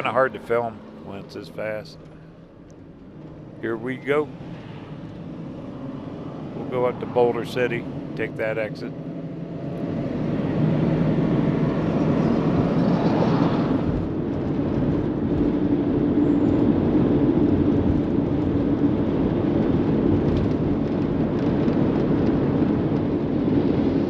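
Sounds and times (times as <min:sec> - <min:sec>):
diesel vehicle road and engine noise: 0:00.0 - 0:24.0.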